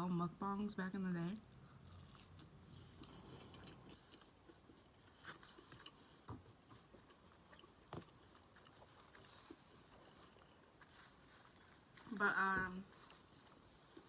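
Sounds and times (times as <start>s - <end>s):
faint chewing: 1.4s - 14.0s.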